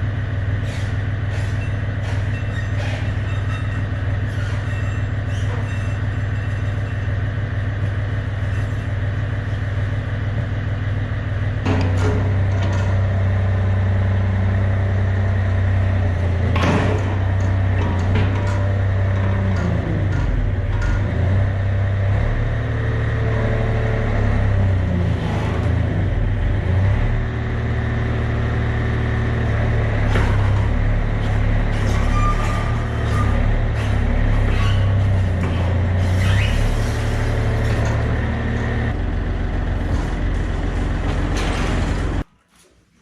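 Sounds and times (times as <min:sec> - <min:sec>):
engine humming: 0:00.0 - 0:42.3.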